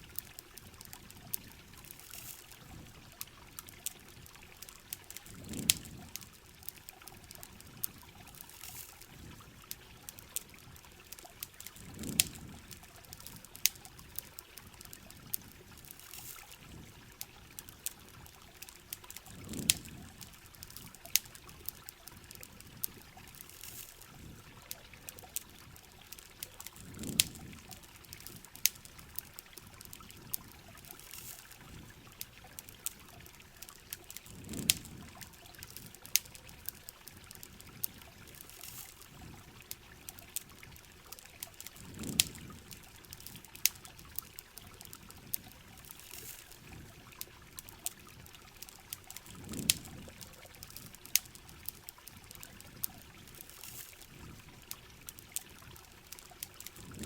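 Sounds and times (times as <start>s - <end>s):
campfire crackling and popping: 0.0s - 57.0s
water trickling: 0.0s - 57.0s.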